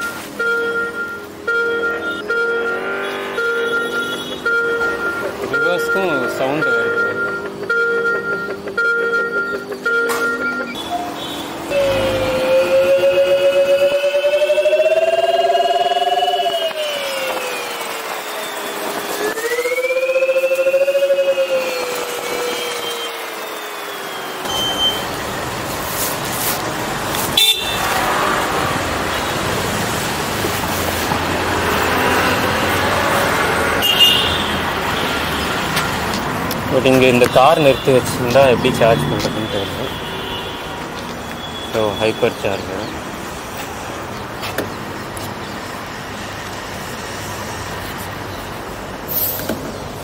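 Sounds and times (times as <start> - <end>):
road traffic noise: 0.0 - 50.0
wind: 0.0 - 50.0.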